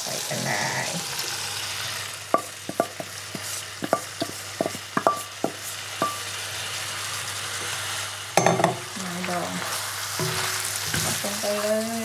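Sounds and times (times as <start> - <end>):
curry sizzling in wok: 0.0 - 12.0.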